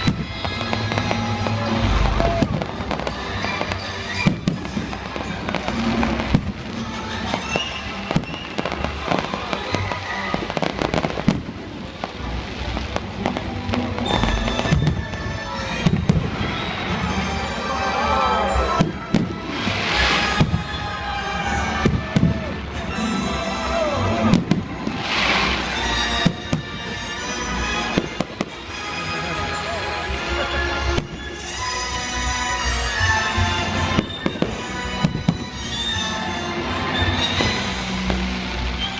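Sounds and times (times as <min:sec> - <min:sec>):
fireworks exploding: 0:00.0 - 0:29.1, 0:30.8 - 0:38.9
music playing: 0:00.0 - 0:38.9.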